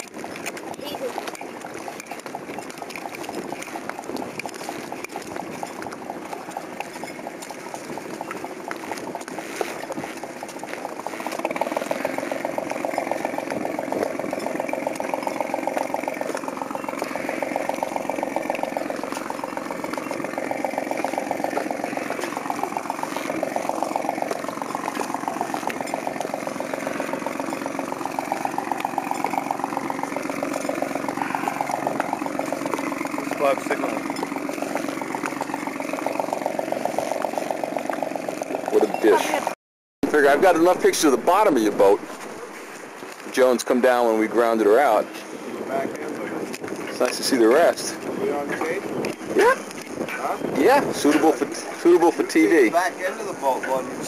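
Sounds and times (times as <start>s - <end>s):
boat engine idling: 0.0s - 54.0s.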